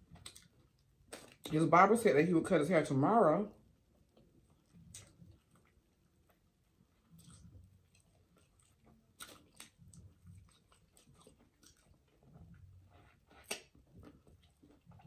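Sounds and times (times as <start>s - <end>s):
chewing and biting: 0.0s - 1.5s, 4.1s - 15.0s.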